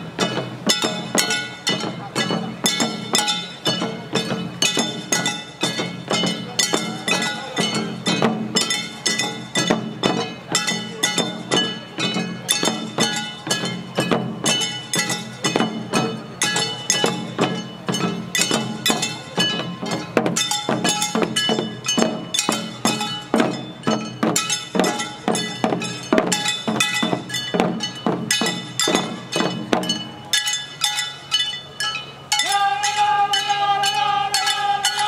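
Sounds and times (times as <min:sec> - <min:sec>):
hand-held gongs struck: 0:00.0 - 0:35.0
taiko drums: 0:00.0 - 0:35.0.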